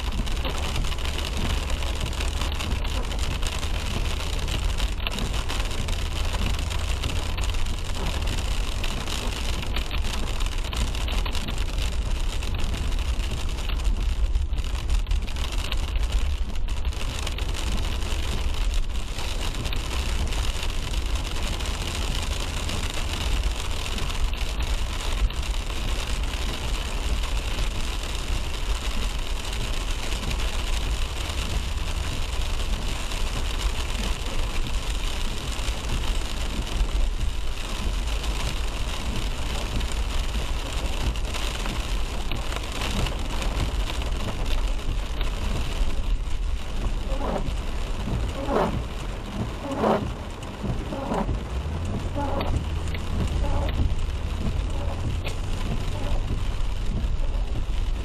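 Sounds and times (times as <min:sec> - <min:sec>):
car road and engine rumble: 0:00.0 - 0:58.0
rain: 0:00.0 - 0:58.0
tyres hissing on wet road: 0:00.0 - 0:58.0.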